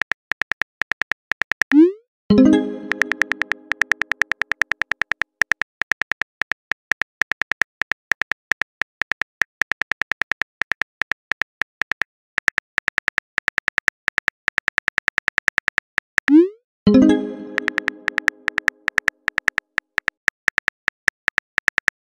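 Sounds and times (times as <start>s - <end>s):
phone keyboard typing clicks: 0.0s - 16.4s, 17.0s - 22.0s.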